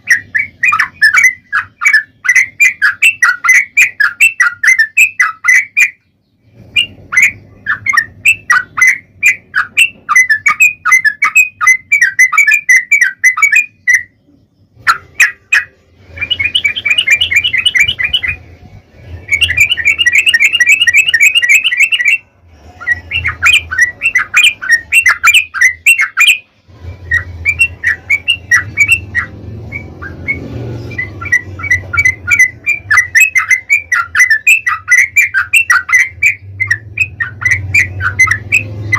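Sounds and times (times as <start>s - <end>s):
bulbul chattering song: 0.0s - 38.9s.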